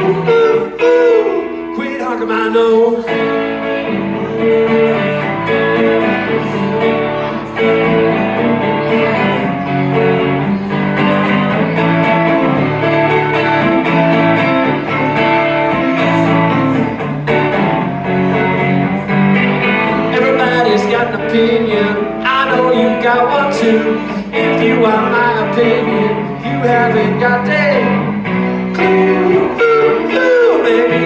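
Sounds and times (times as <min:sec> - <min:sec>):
strummed and picked guitar: 0:00.0 - 0:31.0
live band playing instrumental: 0:03.1 - 0:31.0.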